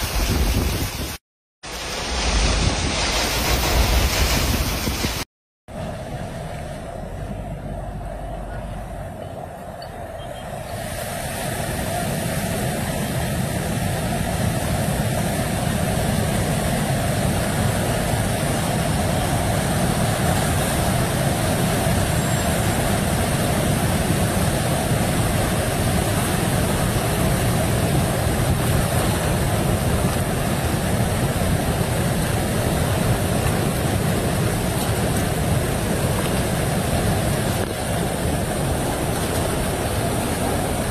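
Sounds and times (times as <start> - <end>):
flood water rushing over rocks: 0.0 - 5.3, 11.1 - 40.9.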